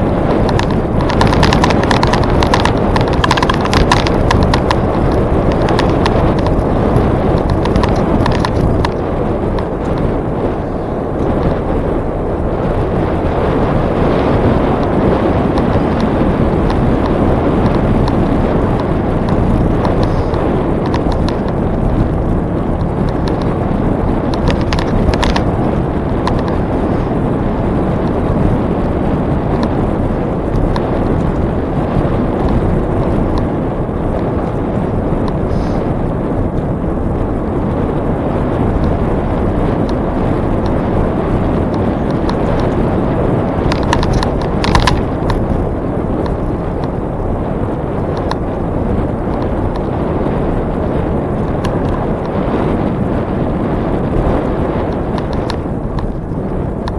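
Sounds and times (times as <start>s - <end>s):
bicycle clicks and rattles: 0.0s - 56.9s
tyres rumbling on trail: 0.0s - 56.9s
wind on microphone: 0.0s - 56.9s.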